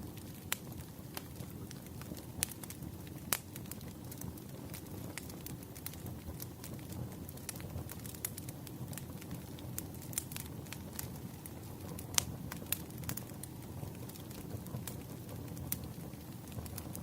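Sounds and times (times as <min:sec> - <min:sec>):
low rumble of flames: 0:00.0 - 0:17.0
firewood popping and snapping: 0:00.1 - 0:17.0.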